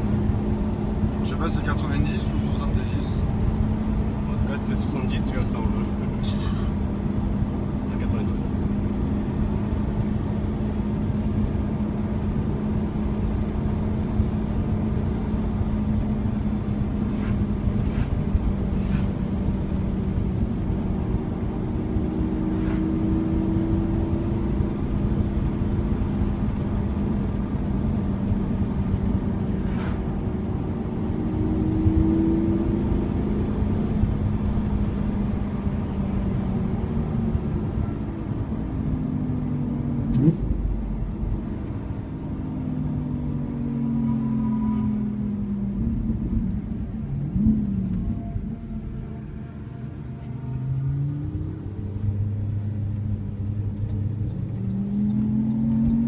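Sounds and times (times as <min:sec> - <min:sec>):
car engine drone from inside cabin: 0:00.0 - 0:56.0
road noise: 0:00.0 - 0:56.0.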